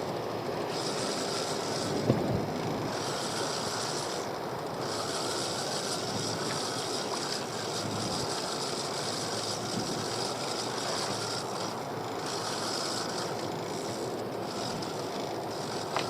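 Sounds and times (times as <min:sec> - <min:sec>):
fishing reel whirring: 0:00.0 - 0:16.0
wind: 0:00.0 - 0:16.0
water noise: 0:00.7 - 0:16.0.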